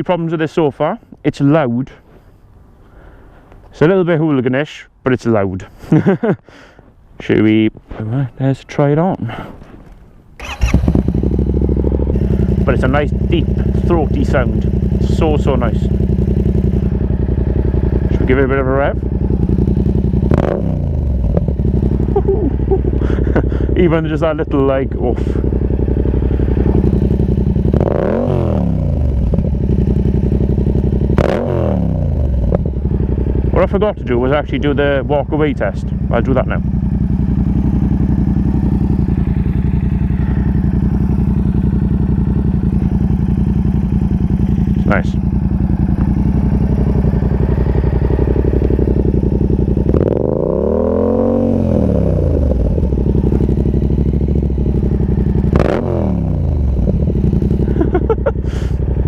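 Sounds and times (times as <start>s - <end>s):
motorcycle engine idling and revving: 10.4s - 59.0s.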